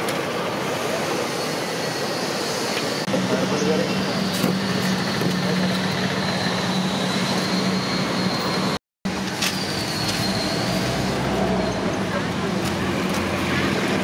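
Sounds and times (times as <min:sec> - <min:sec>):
traffic: 0:00.0 - 0:14.0.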